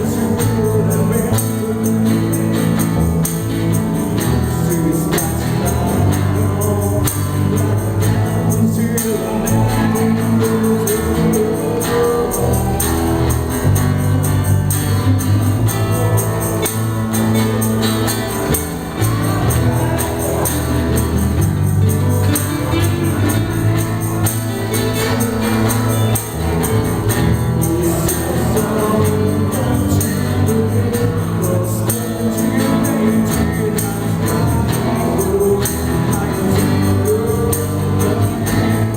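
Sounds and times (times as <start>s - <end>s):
acoustic guitars: 0.0s - 38.9s
cajon beat: 0.0s - 38.9s
person singing: 0.0s - 38.9s.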